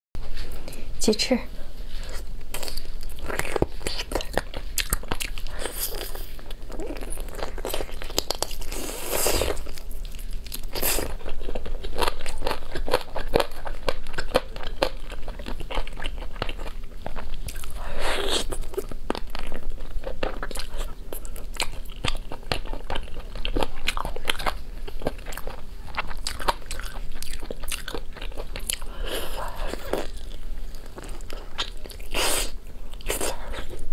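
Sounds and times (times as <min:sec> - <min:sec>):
wet chewing of chicken wings: 0:02.5 - 0:33.8.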